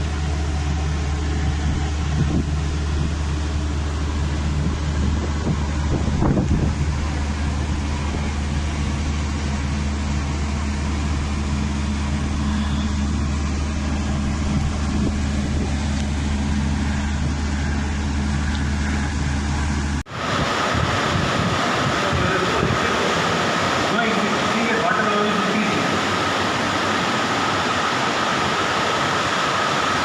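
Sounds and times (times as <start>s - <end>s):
loud hissing rush: 0.0s - 30.0s
low engine hum: 0.0s - 30.0s
rushing noise: 0.0s - 30.0s.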